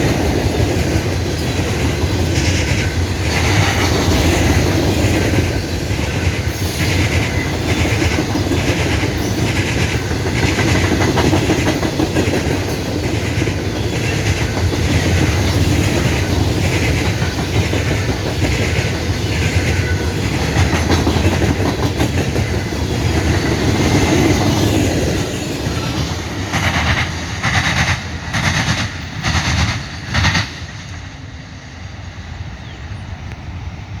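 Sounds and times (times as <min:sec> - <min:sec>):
train wheels clicking over rail joints: 0:00.0 - 0:31.1
freight train rumble: 0:00.0 - 0:34.0.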